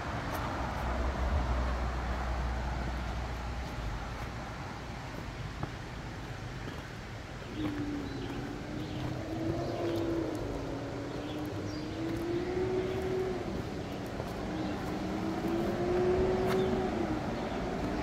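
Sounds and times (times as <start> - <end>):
distant engine droning: 0.0 - 18.0.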